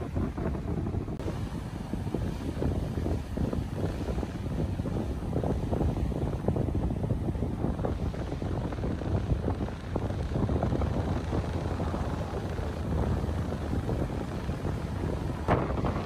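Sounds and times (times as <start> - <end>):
rough surf breaking: 0.0 - 16.0
wind buffeting microphone: 0.0 - 16.0.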